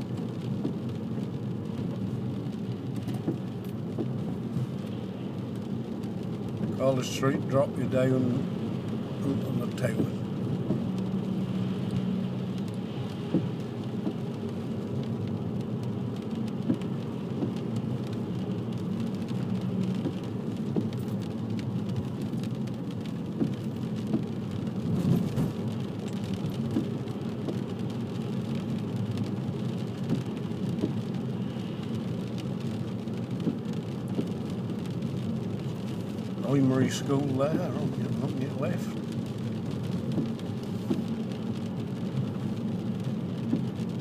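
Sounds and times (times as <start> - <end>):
car engine hum: 0.0 - 44.0
tyres swishing on wet road: 0.0 - 44.0
windscreen wipers: 0.0 - 44.0.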